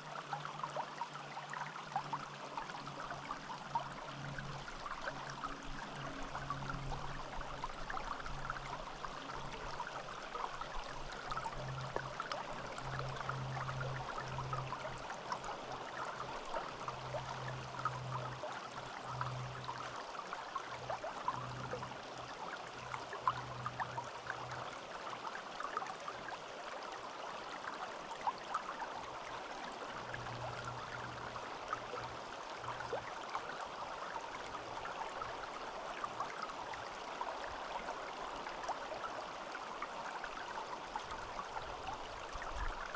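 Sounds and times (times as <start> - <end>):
stream babbling over stones: 0.0 - 42.9.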